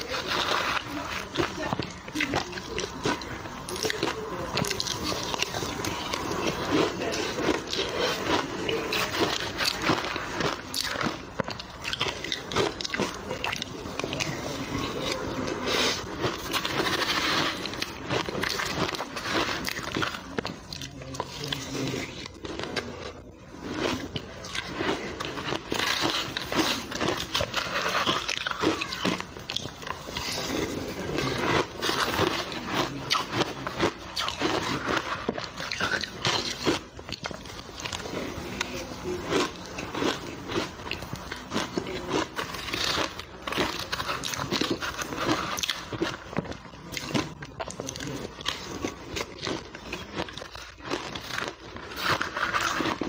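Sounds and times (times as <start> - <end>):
crushed ice being chewed: 0.0 - 53.0.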